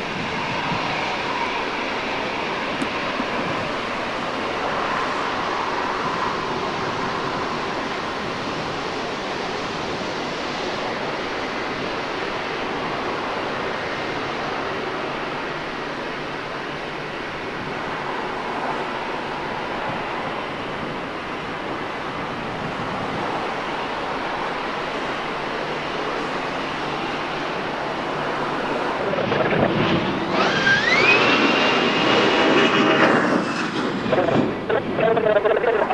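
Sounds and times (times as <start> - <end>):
wind on microphone: 0.0 - 15.6, 16.9 - 35.9
jet engines running: 0.0 - 35.9.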